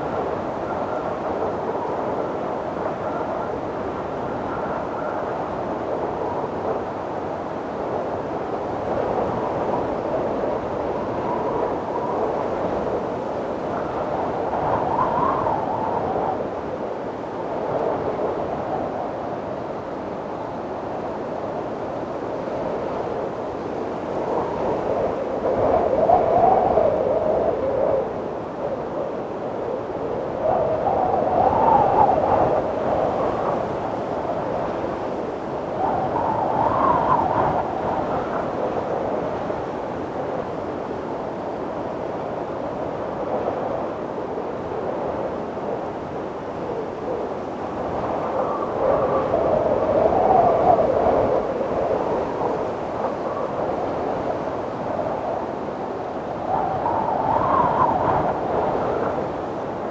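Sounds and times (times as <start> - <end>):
wind blowing: 8.7 - 59.9.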